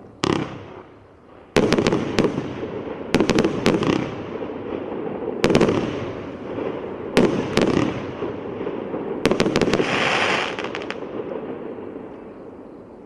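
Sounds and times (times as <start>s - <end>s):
fireworks bangs: 0.0s - 13.0s
fireworks hissing and crackling: 0.0s - 13.0s.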